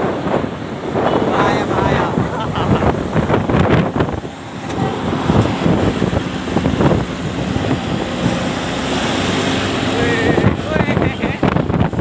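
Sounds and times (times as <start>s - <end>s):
passing traffic rush: 0.0s - 12.0s
wind buffeting microphone: 0.0s - 12.0s.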